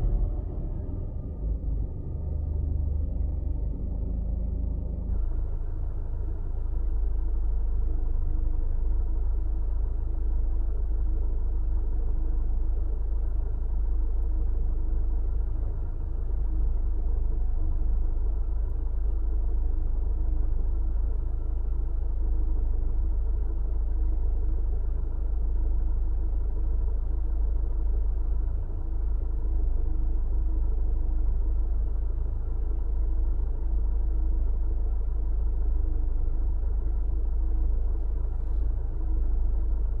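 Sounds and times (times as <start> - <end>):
car engine rumble inside cabin: 0.0 - 40.0.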